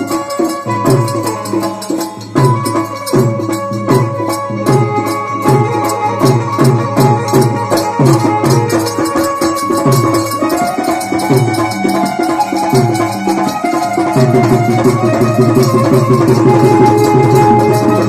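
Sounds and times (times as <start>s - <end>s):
hand drums beating: 0.0s - 18.0s
held instrumental notes: 0.0s - 18.0s
high percussion ticking: 0.0s - 18.0s.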